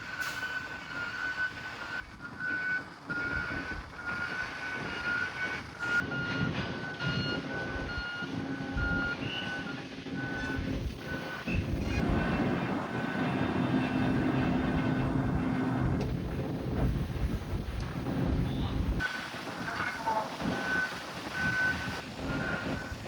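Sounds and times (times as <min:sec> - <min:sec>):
low rumble of engines: 0:00.0 - 0:23.0
reversing alarm beeping: 0:00.2 - 0:15.7, 0:19.6 - 0:23.0.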